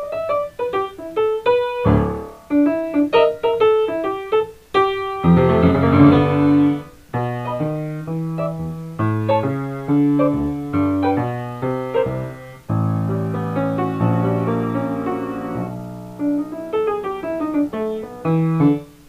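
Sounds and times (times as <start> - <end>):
solo piano: 0.0 - 19.0.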